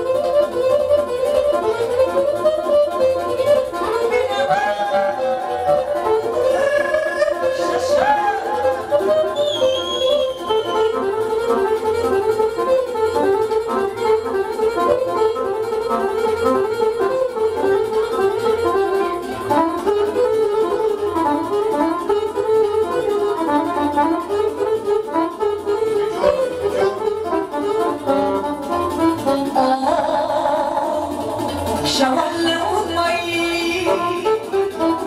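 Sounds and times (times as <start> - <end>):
folk band instrumental music: 0.0 - 35.0.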